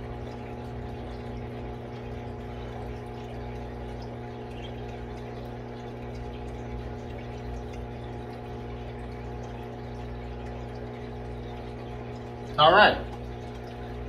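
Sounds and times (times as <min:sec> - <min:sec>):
low wash like running water: 0:00.0 - 0:14.0
steady electrical hum: 0:00.0 - 0:14.0.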